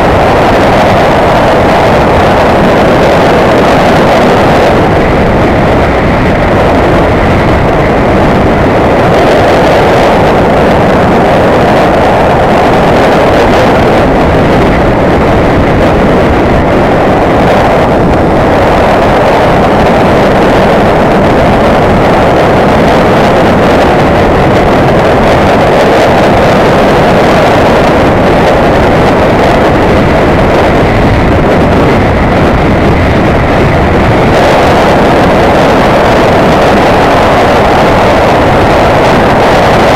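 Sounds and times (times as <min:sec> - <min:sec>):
road noise: 0:00.0 - 0:39.9
wind rushing on microphone: 0:00.0 - 0:39.9.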